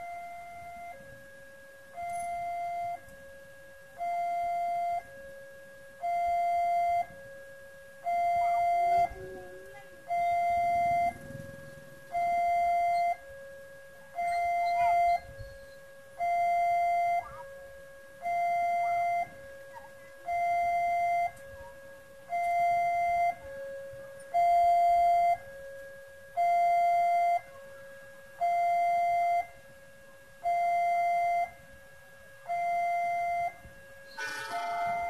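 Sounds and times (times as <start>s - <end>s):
level crossing warning alarm: 0.0s - 35.0s.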